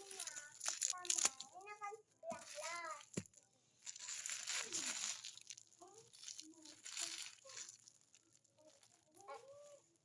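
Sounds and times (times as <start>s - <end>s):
packaging crinkling: 0.0s - 1.5s, 2.3s - 9.3s.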